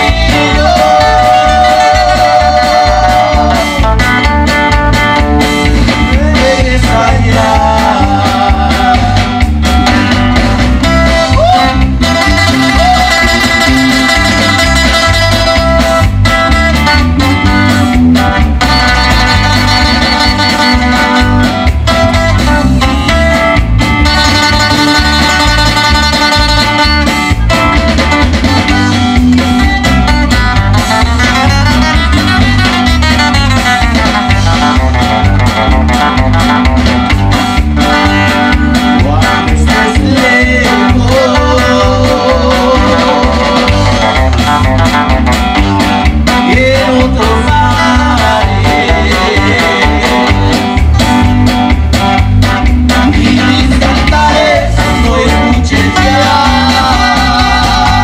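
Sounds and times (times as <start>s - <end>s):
bass: 0.0s - 58.0s
guitar melody: 0.0s - 58.0s.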